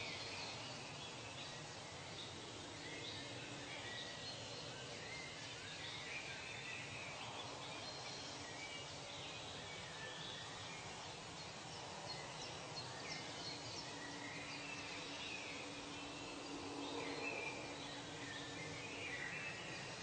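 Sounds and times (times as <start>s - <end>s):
steady hiss of background noise: 0.0s - 20.0s.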